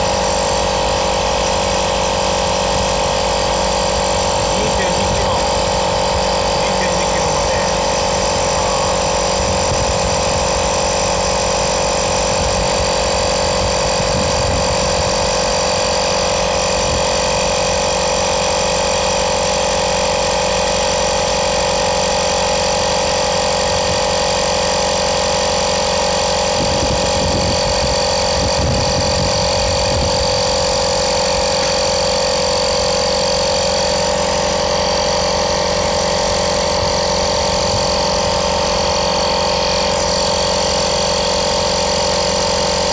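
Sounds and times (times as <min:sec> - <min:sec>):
electric air compressor humming: 0:00.0 - 0:42.9.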